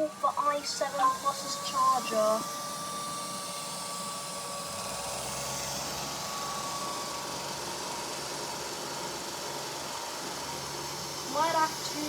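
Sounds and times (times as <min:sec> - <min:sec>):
robot vacuums whirring: 0:00.0 - 0:12.0.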